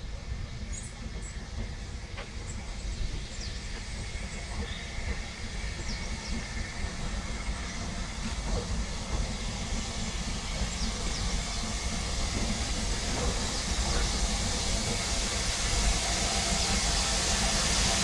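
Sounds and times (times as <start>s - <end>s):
steam locomotive rumble: 0.0s - 18.0s
steam hissing: 0.1s - 18.0s.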